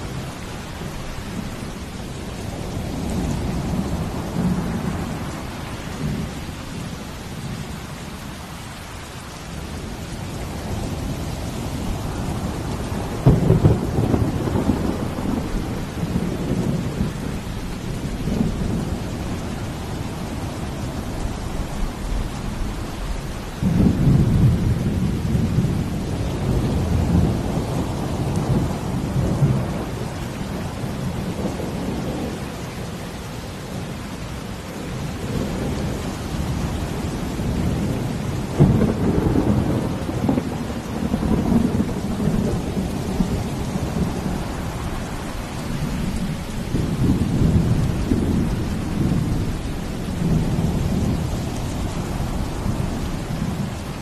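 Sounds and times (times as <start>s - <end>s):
ocean waves rumbling: 0.0s - 54.0s
steady rain falling: 0.0s - 54.0s.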